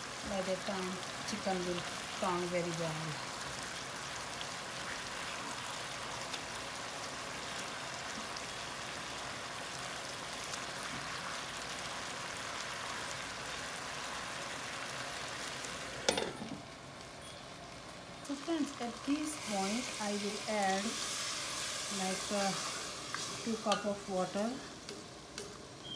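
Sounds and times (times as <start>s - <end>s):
chicken sizzling in hot oil: 0.0s - 25.9s.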